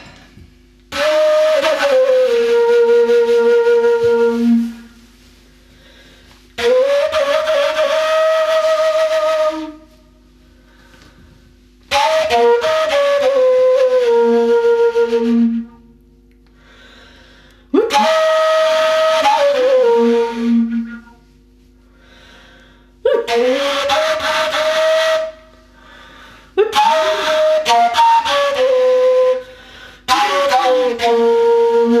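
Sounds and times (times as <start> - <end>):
flute playing sliding phrases: 0.9 - 11.2, 11.8 - 16.0, 17.7 - 21.7, 23.0 - 32.0.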